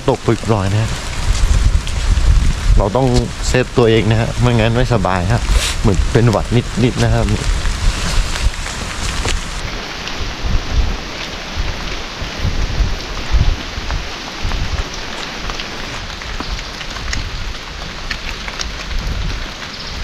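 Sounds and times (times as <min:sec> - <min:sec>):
rain falling on foliage: 0:00.0 - 0:20.0
wind buffeting microphone: 0:00.0 - 0:20.0.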